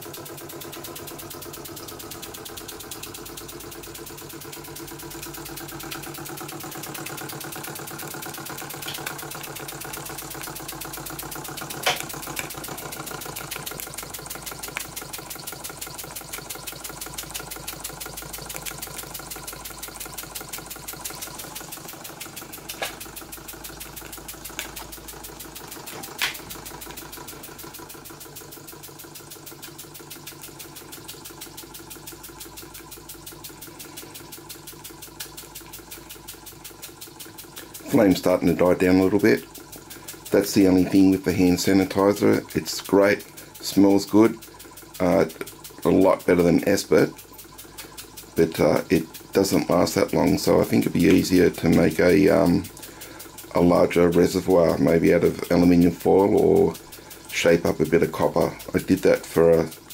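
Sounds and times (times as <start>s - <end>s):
sharp clicks: 0.0s - 59.9s
toy steam engine running: 0.0s - 59.9s.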